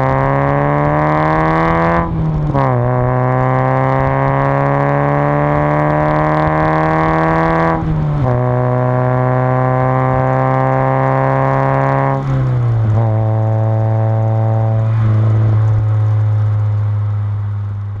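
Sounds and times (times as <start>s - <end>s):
car exhaust accelerating through gears: 0.0s - 18.0s.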